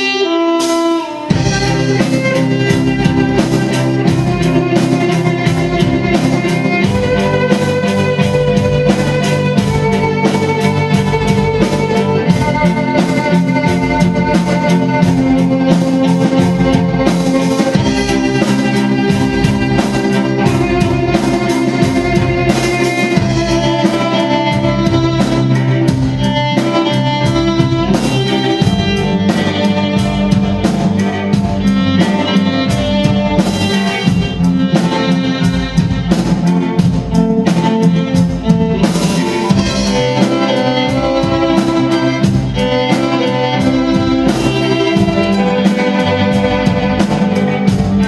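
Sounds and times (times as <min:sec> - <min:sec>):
drum kit: 0:00.0 - 0:48.0
orchestra playing rock arrangement: 0:00.0 - 0:48.0
violins: 0:00.0 - 0:48.0.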